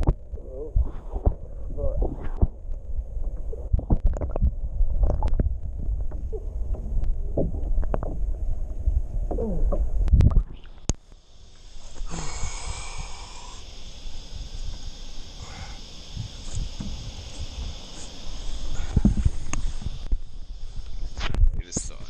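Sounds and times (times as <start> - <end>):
muffled underwater rumble: 0.0 - 22.0.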